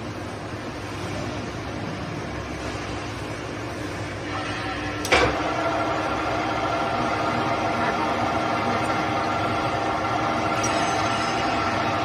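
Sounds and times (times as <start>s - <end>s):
lathe humming with steady whine: 0.0s - 12.0s.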